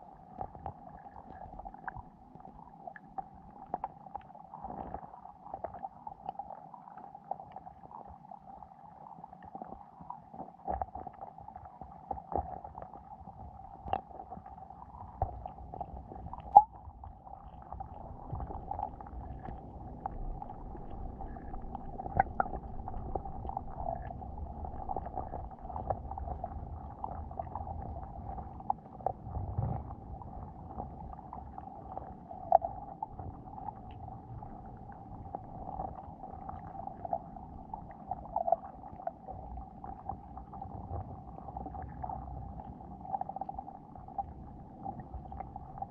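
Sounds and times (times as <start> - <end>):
muffled underwater hum: 0.0 - 45.9.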